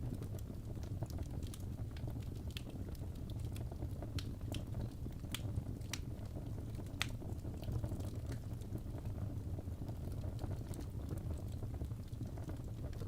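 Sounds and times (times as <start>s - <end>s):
logs crackling in a fireplace: 0.0s - 13.0s.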